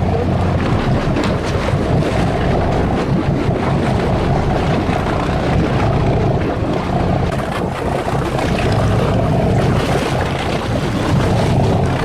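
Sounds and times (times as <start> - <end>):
boat engine running: 0.0 - 12.0
wind buffeting microphone: 0.0 - 12.0.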